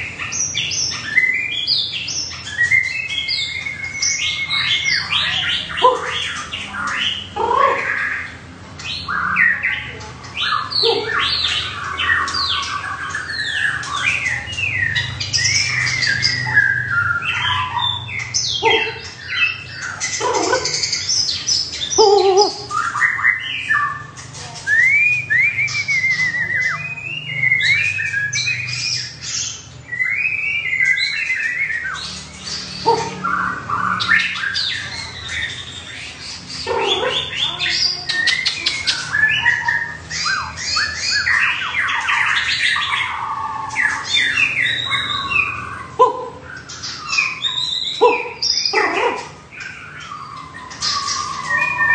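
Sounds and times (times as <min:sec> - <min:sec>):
harsh bird calls: 0:00.0 - 0:51.9
songbirds singing: 0:00.0 - 0:51.9.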